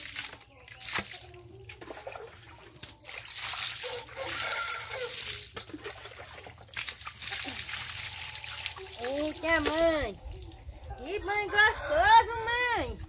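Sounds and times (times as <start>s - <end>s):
water pouring and splashing: 0.0s - 11.5s.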